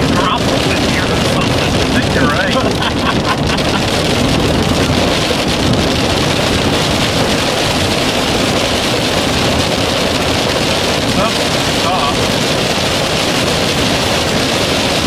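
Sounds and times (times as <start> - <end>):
hail and rain on vehicle roof: 0.0 - 15.0
road noise: 0.0 - 15.0.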